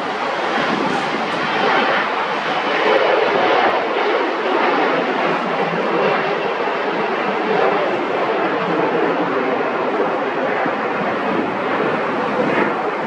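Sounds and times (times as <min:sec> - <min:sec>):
airplane engines rushing: 0:00.0 - 0:13.0.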